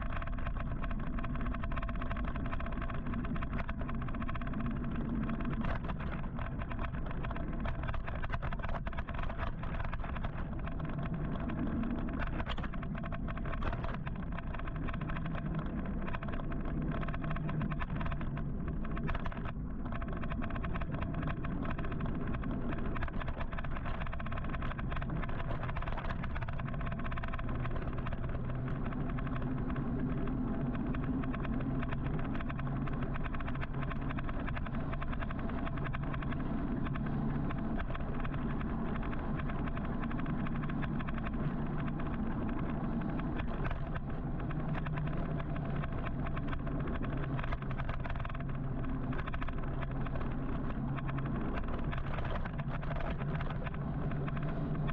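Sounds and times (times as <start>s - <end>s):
low electric motor hum: 0.0s - 54.9s
small clicks: 0.0s - 54.9s.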